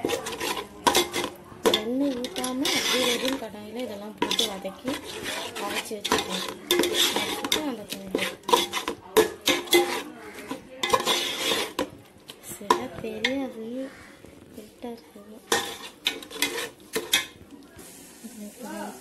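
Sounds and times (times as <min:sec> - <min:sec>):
metal spatula scraping a pot: 0:00.0 - 0:14.2, 0:15.4 - 0:17.5.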